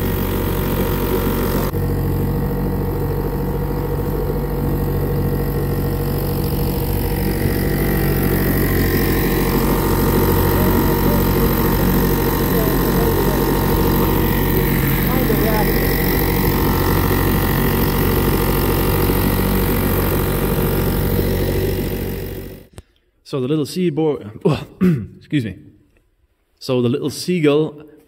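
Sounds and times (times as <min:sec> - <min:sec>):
outboard motor chugging: 0:00.0 - 0:22.7.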